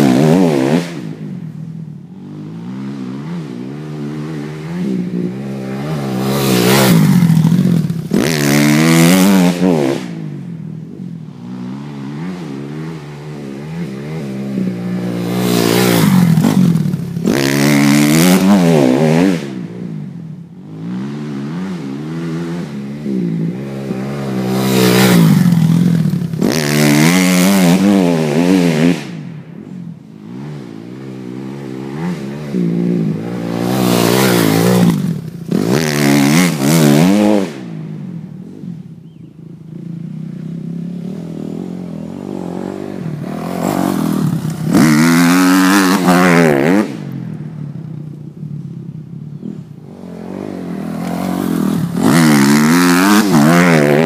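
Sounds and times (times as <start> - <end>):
dirt bike engine revving: 0.0 - 10.6, 11.2 - 29.4, 30.1 - 47.3, 49.4 - 54.0.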